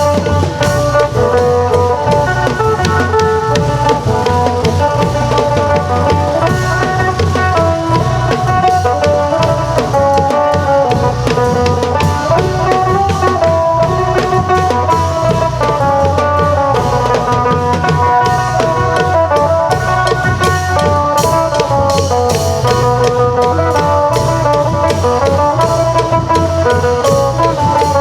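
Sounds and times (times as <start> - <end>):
hand drums playing: 0.0 - 28.0
plucked lute melody: 0.0 - 28.0.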